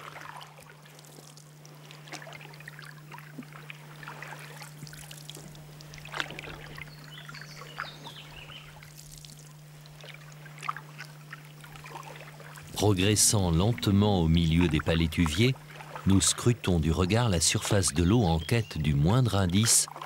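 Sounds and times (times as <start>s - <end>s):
paddles splashing in water: 0.0s - 13.8s, 14.4s - 20.0s.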